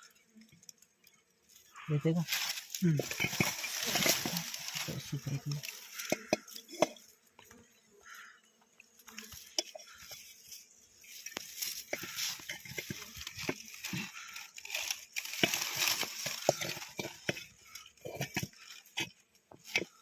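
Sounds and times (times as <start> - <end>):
rustling and crackling: 0.0 - 20.0.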